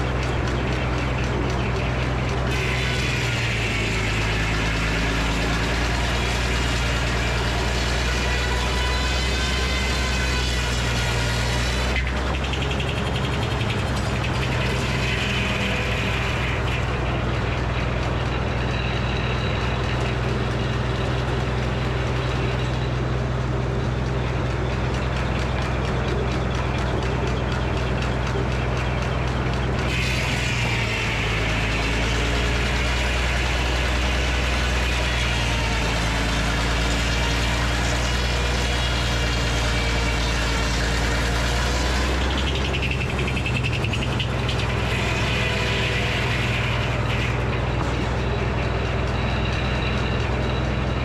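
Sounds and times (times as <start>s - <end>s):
high-pitched saw whine: 0.0s - 51.0s
sawmill engine drone: 0.0s - 51.0s.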